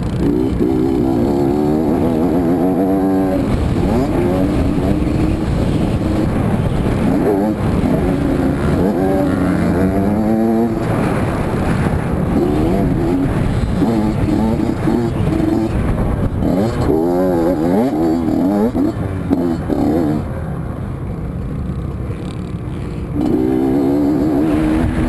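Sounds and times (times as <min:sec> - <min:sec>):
motocross engine revving: 0:00.0 - 0:21.2, 0:21.8 - 0:25.0.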